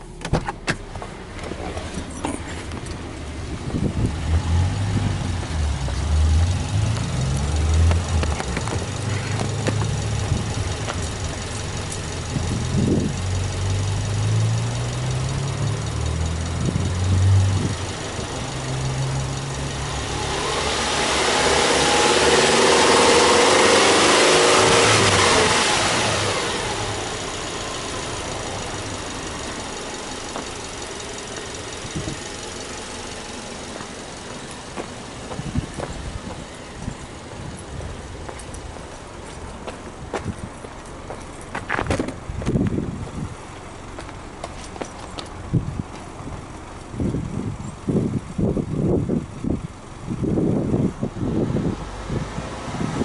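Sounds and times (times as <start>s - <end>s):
car engine idling: 0.0s - 52.2s
engine throttle blips: 0.0s - 53.0s.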